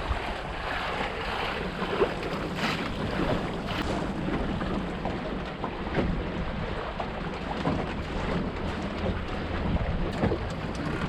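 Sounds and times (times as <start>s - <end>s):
water splashing against hull: 0.0s - 11.0s
wind buffeting microphone: 0.0s - 11.0s.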